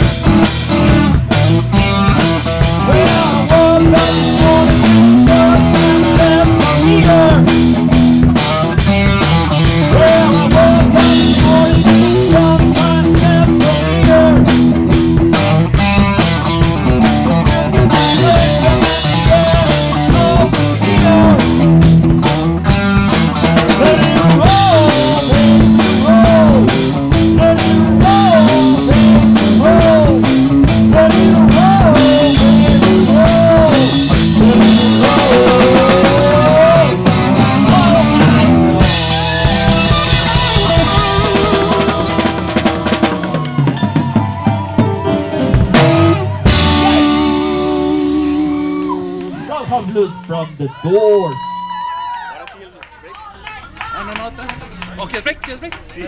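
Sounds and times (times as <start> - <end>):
drum kit: 0.0 - 50.0, 53.2 - 56.0
bending lead guitar line: 0.0 - 51.8, 53.0 - 56.0
electric guitars: 0.0 - 56.0.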